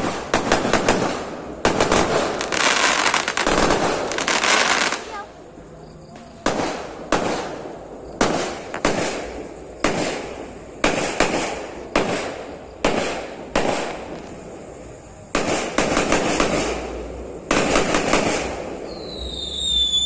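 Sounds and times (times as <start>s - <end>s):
fireworks bangs: 0.0s - 5.3s, 6.3s - 20.0s.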